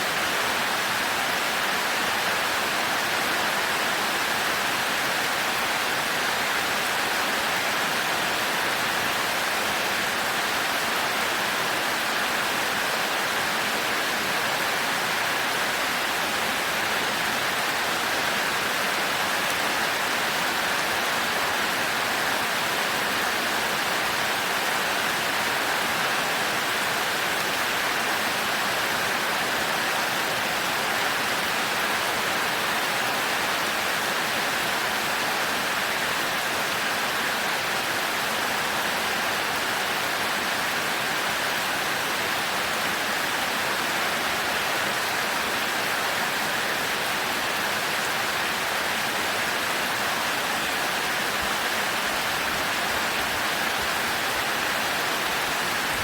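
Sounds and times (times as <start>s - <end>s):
heavy rain pouring: 0.1s - 56.0s.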